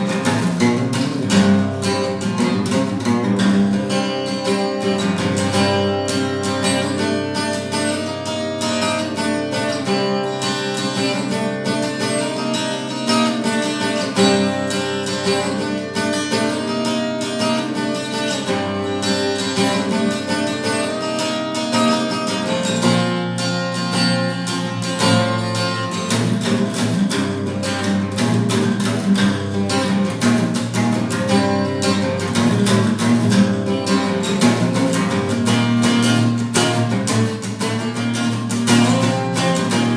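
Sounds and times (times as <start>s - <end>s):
acoustic guitar playing: 0.0s - 39.9s.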